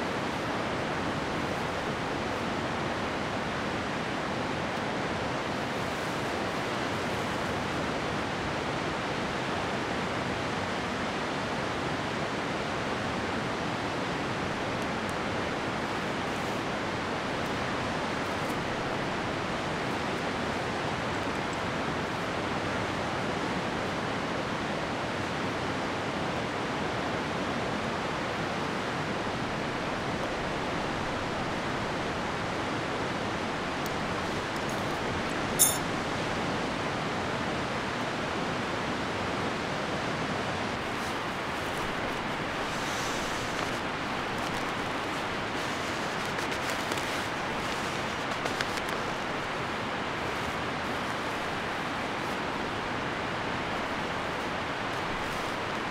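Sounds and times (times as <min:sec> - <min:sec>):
river rapids rushing: 0:00.0 - 0:55.9.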